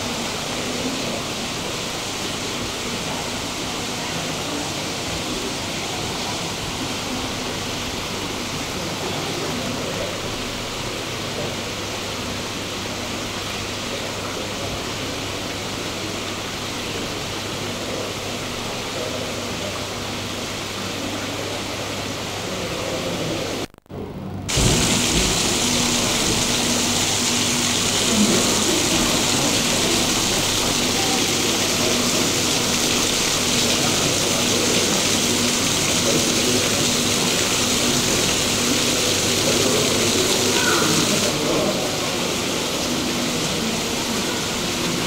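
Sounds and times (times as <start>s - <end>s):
running water rushing: 0.0s - 23.7s, 24.5s - 45.0s
faint indistinct voices: 0.0s - 45.0s.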